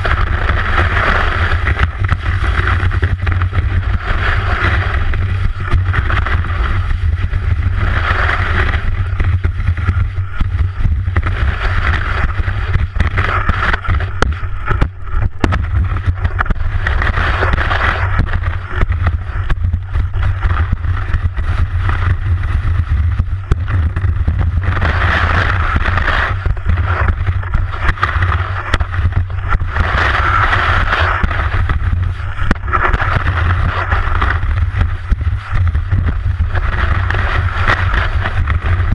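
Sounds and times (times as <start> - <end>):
skis scraping over snow: 0.0 - 38.9
wind buffeting microphone: 0.0 - 38.9.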